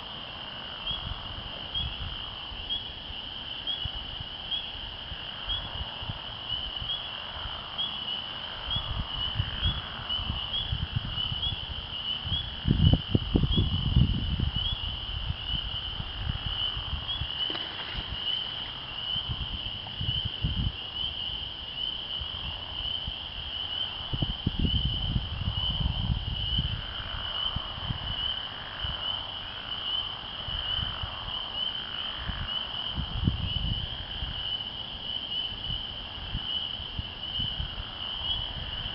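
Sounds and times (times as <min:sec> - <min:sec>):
frogs peeping in chorus: 0:00.0 - 0:38.9.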